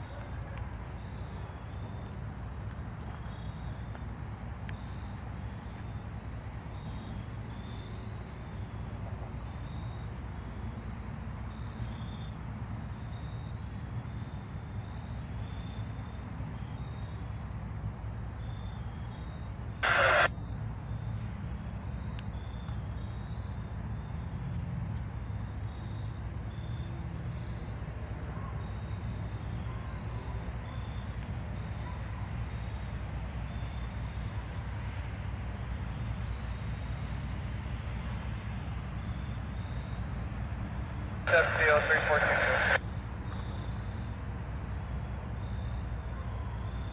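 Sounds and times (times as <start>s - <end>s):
diesel locomotives rumbling: 0.0s - 46.9s.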